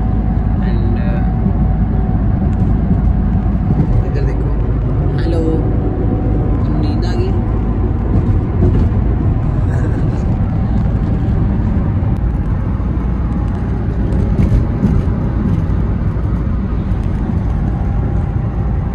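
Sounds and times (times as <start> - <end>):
car road and engine rumble: 0.0 - 18.9.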